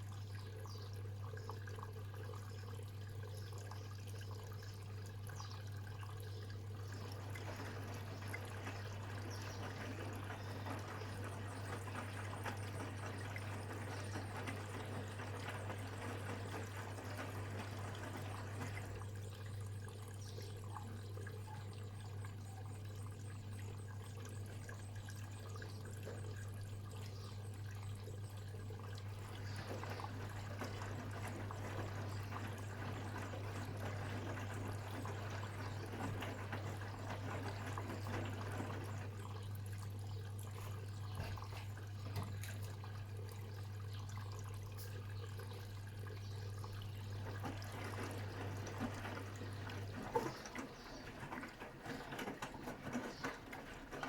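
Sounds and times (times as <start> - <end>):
washing machine low hum: 0.0 - 54.0
water sloshing in washing machine: 0.0 - 54.0.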